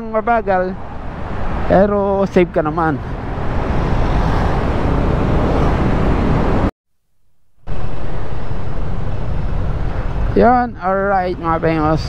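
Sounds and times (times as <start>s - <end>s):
wind and road noise: 0.0s - 6.7s, 7.6s - 12.0s.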